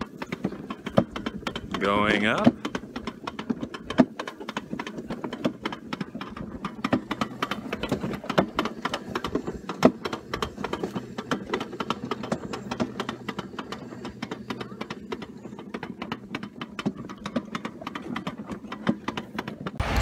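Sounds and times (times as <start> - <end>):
sled clicking and rattling on rail: 0.0 - 20.0.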